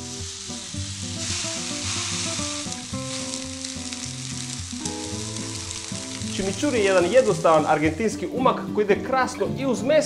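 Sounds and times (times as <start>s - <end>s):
meat patties sizzling on grill: 0.0s - 8.3s
background music: 0.0s - 10.0s.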